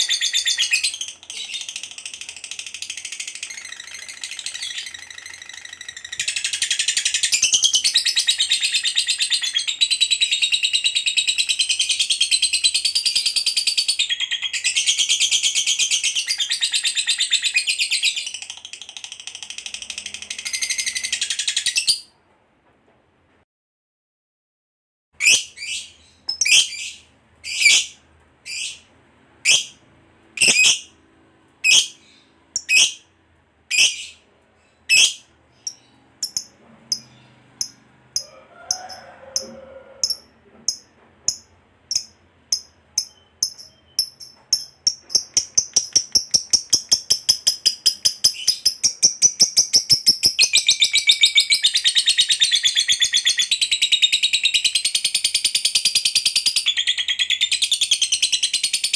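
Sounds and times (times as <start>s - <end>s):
lovebird chirping and trilling: 0.0s - 22.1s, 25.2s - 29.8s, 30.4s - 31.0s, 31.6s - 33.1s, 33.7s - 38.4s, 39.3s - 58.9s.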